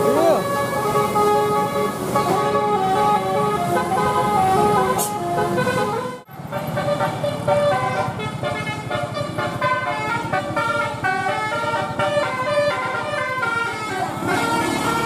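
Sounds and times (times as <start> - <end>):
motor traffic: 0.0 - 15.0
musical bus horn tune: 0.0 - 15.0.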